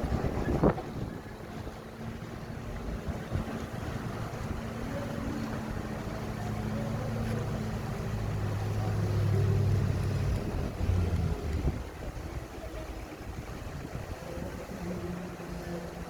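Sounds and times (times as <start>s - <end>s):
bulldozer diesel engine running: 0.0s - 13.9s.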